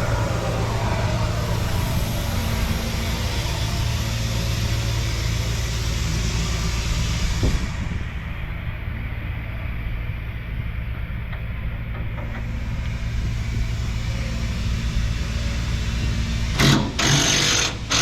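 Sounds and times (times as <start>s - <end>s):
compressor engine drone: 0.0s - 18.0s.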